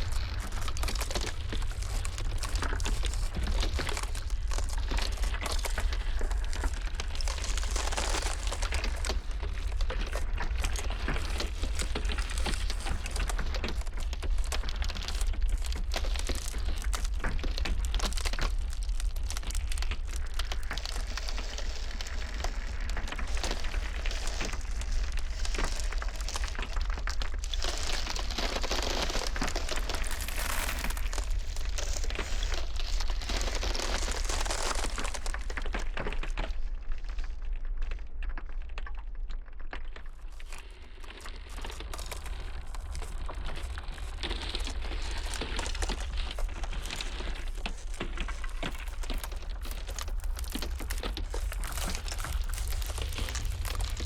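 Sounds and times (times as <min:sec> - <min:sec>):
low steady rumble: 0:00.0 - 0:36.0, 0:41.7 - 0:54.0
ice cracking and crackling: 0:00.0 - 0:54.0.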